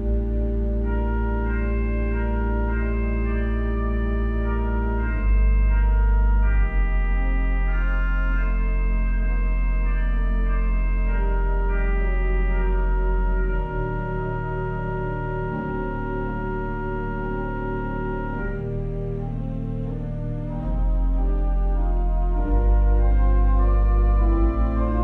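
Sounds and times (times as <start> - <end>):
organ playing slow chords: 0.0 - 25.0.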